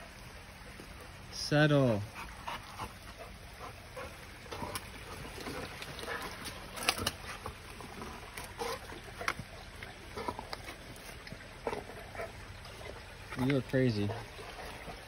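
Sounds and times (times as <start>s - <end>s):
trickling creek water: 0.0s - 15.0s.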